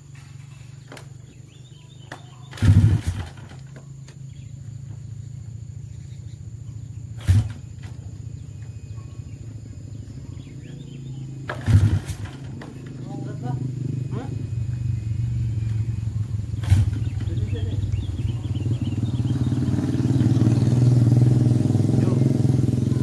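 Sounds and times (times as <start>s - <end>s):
motorcycle engine idling: 0.0s - 23.0s
motorcycle revving: 0.0s - 23.0s.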